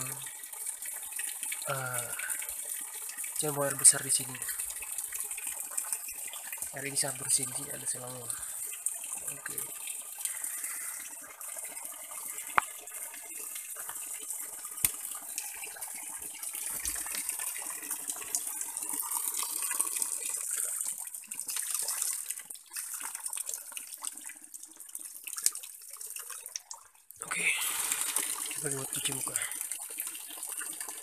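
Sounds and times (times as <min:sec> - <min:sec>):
water filling plastic bottle: 0:00.0 - 0:31.0.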